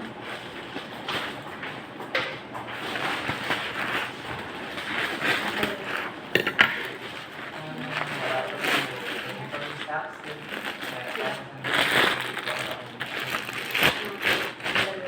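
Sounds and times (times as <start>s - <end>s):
packaging rustling: 2.6s - 15.0s.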